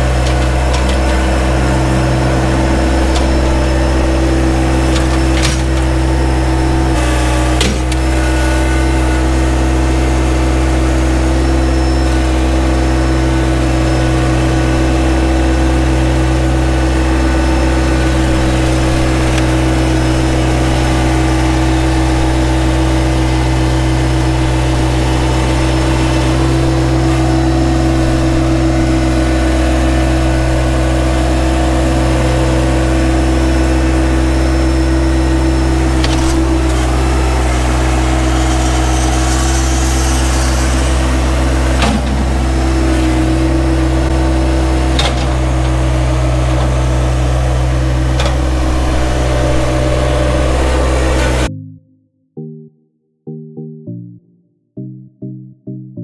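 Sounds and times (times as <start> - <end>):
tractor diesel engine running: 0.0 - 51.5.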